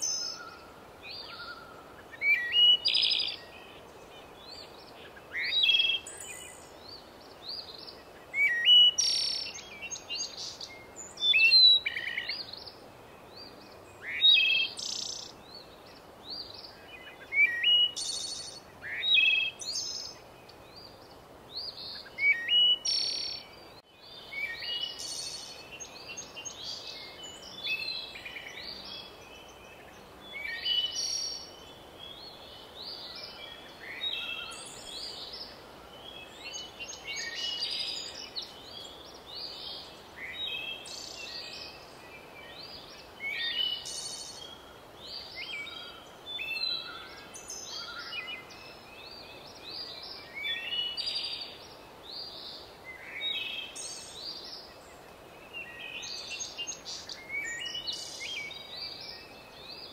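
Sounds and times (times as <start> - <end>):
faint steady hiss: 0.0 - 59.9
songbirds chirping and trilling: 0.0 - 59.9.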